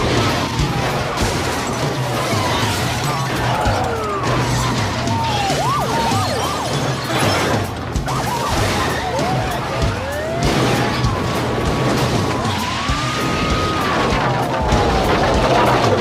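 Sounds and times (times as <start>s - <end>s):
metal crunching and smashing: 0.0s - 16.0s
soundtrack music: 0.0s - 16.0s.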